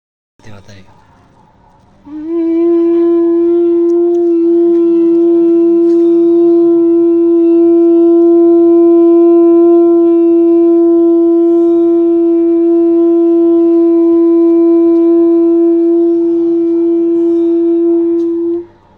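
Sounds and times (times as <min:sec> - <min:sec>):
conch shell horn note: 0:02.0 - 0:18.9.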